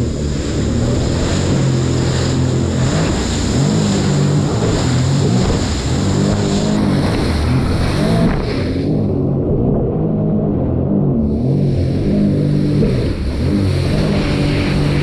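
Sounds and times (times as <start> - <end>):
personal watercraft engine running: 0.0 - 15.0
rough water rushing against hull: 0.0 - 15.0.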